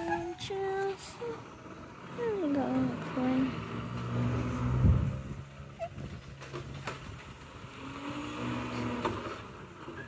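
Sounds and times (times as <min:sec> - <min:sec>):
garbage truck engine running: 0:00.0 - 0:10.0.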